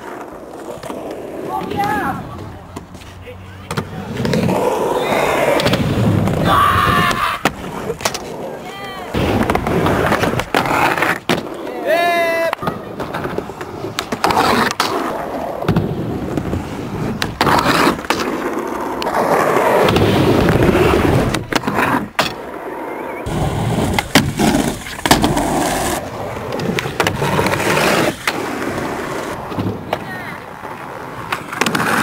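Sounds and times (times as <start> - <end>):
skateboard trucks grinding: 0.0 - 32.0
skateboard wheels rolling: 0.0 - 32.0
skateboards clacking: 0.0 - 32.0.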